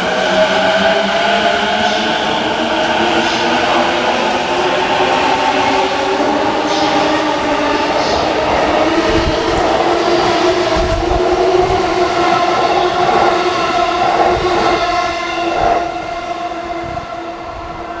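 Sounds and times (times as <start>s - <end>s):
wheel and rail rumble: 0.0s - 18.0s
electric train motor whine: 1.5s - 18.0s.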